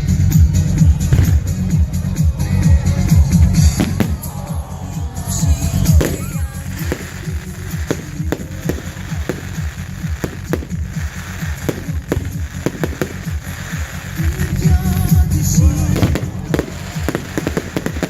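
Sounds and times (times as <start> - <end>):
fireworks bangs and pops: 0.0 - 18.0
loud music: 0.0 - 18.0.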